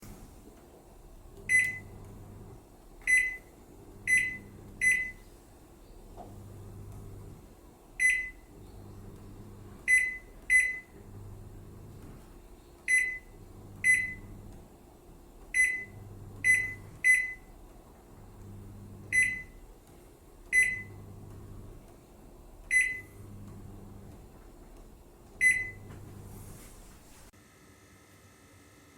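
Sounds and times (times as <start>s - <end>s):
faint pulsing low hum: 0.0s - 27.2s
microwave control panel beeping: 1.3s - 26.8s.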